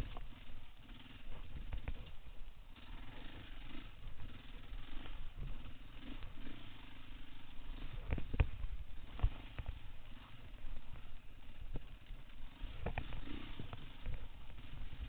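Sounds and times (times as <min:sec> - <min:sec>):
dirt bike engine at low revs: 0:00.0 - 0:15.0.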